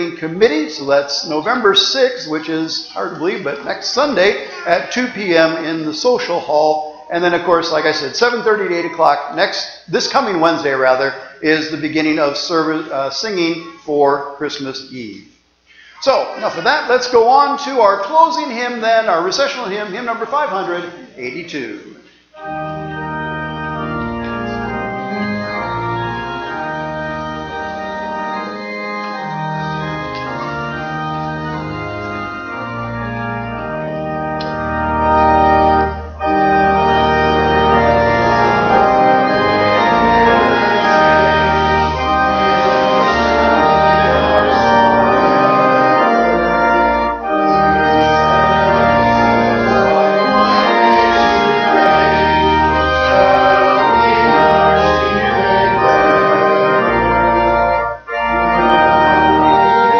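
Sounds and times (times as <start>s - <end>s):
church organ playing a hymn: 0.0s - 15.0s, 15.8s - 59.9s.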